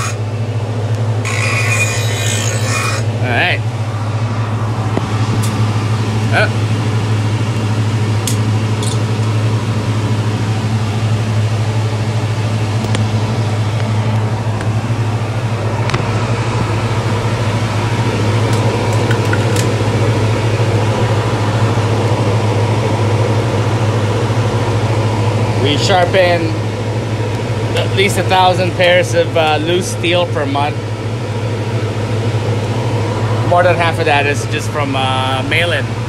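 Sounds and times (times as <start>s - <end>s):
sharpening machine motor hum: 0.0s - 36.0s.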